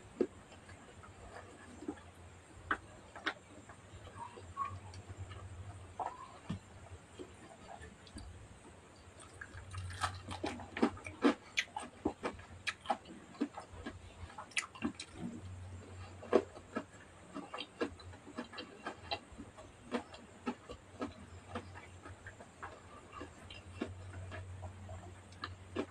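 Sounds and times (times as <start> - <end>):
person chewing: 0.1 - 8.4, 9.0 - 25.9.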